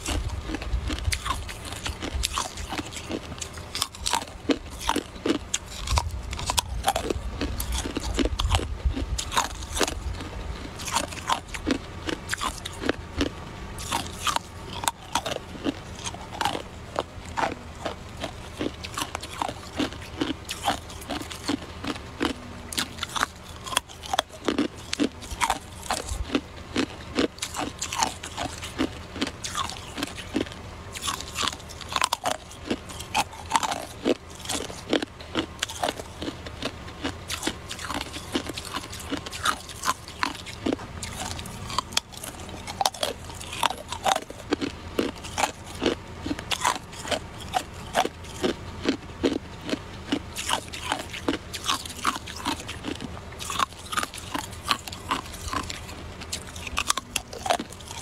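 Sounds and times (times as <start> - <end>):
ice crunching being chewed: 0.0 - 58.0.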